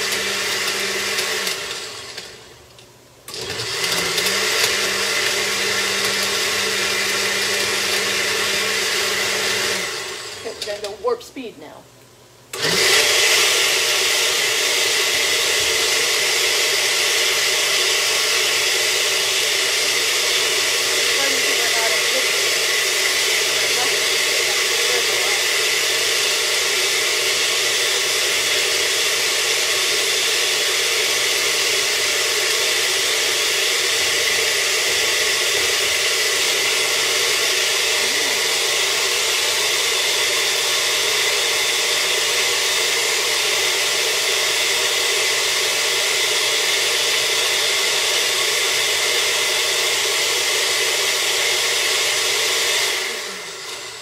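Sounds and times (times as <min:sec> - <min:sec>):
blender running: 0:00.0 - 0:02.6, 0:03.2 - 0:11.5, 0:12.5 - 0:54.0.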